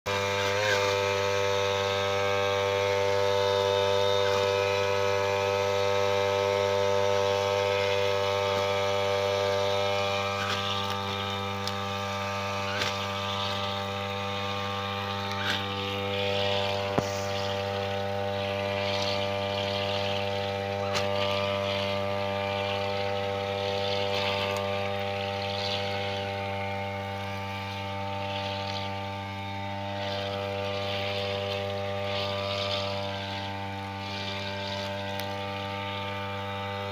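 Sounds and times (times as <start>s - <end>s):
brush cutter engine drone: 0.0s - 36.9s
grass cutting hiss: 0.1s - 36.9s.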